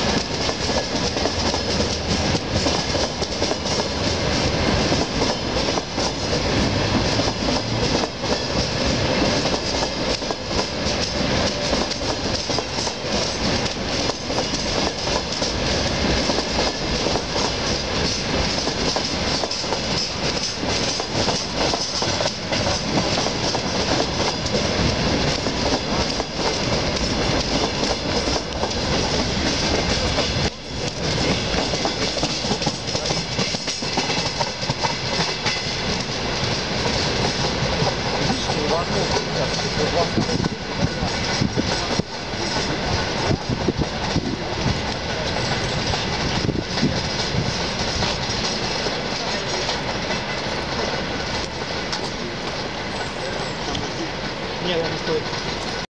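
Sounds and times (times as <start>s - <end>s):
train wheels rolling on rails: 0.0s - 55.9s.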